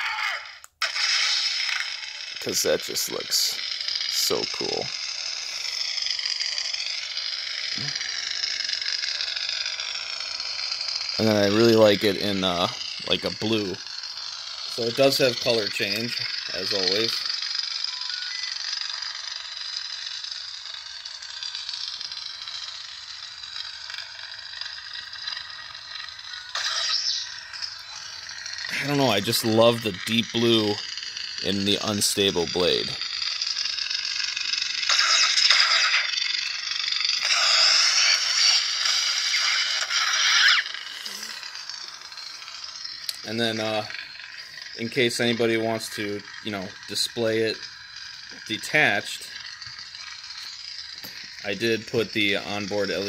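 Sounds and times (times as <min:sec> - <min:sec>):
lightsaber hum: 0:00.0 - 0:53.0.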